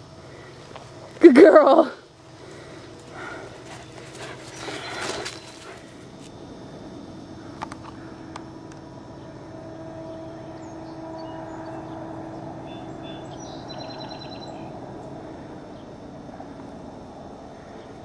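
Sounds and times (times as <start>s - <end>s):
outdoor background noise: 0.0s - 18.0s
steady droning hum: 0.0s - 18.0s.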